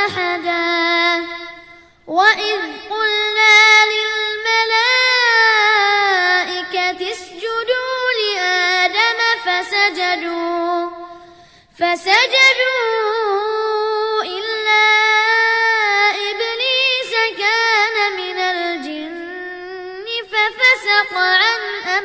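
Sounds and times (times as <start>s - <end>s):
child chanting melodically: 0.0s - 22.0s.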